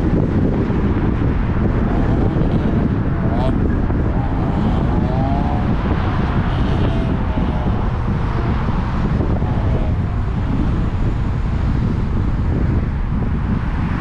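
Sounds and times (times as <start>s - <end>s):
road and tyre noise: 0.0s - 14.0s
wind rushing over camera: 0.0s - 14.0s.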